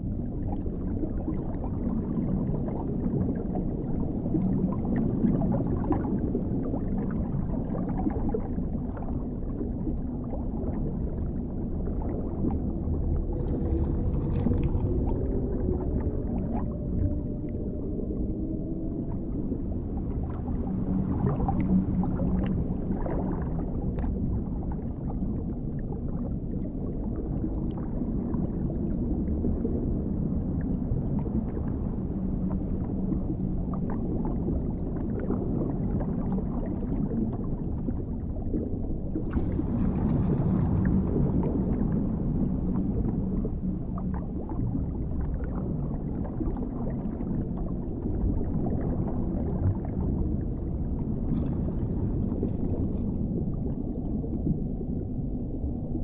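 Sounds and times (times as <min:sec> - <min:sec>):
deep underwater rumble: 0:00.0 - 0:56.0
muffled gurgling: 0:00.0 - 0:56.0.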